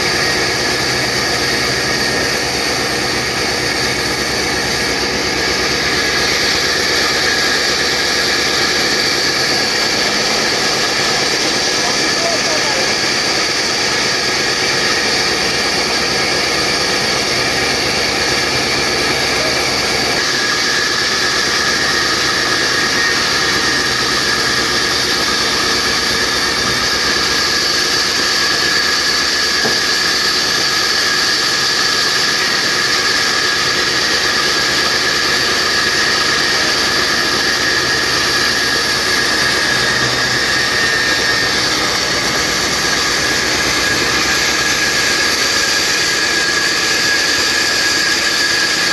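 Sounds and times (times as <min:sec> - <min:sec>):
band sawmill running: 0:00.0 - 0:48.9
high whine of saw blade: 0:00.0 - 0:48.9.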